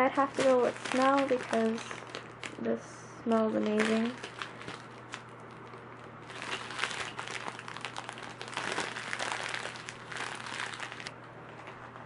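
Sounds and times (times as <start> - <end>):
plastic crinkling and rustling: 0.0 - 2.7, 3.3 - 12.0.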